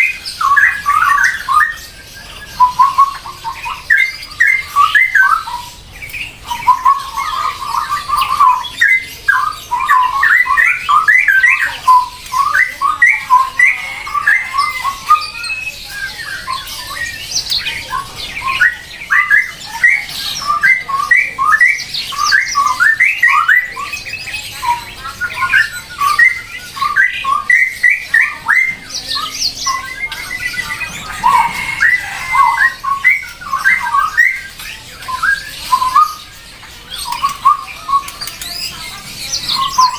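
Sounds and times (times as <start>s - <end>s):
birds squawking and chirping: 0.0s - 39.9s.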